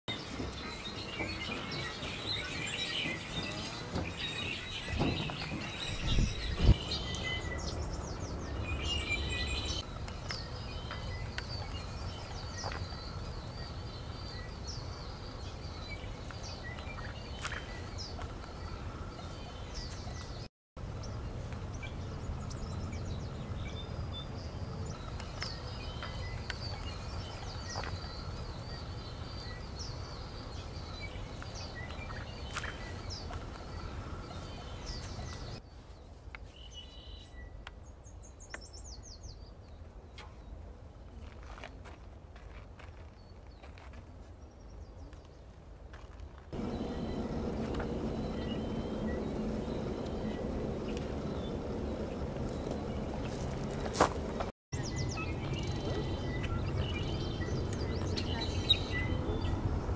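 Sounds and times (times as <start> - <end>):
small birds chirping: 0.1 - 42.0, 46.5 - 59.9.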